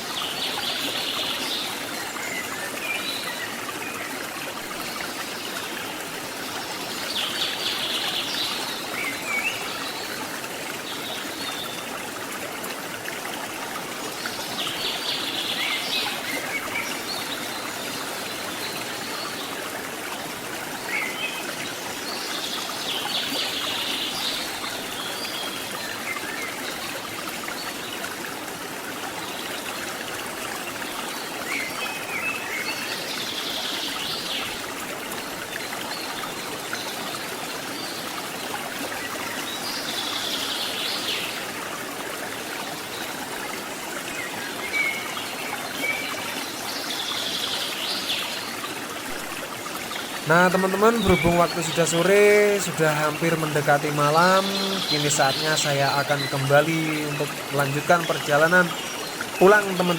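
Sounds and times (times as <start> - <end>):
rushing river and waterfall: 0.0 - 59.9.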